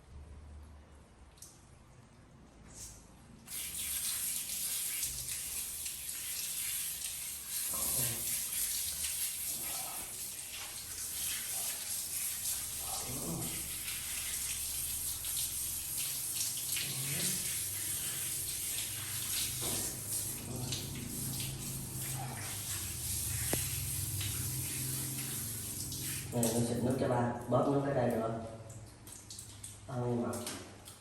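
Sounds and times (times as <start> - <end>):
water running: 2.7 - 31.0.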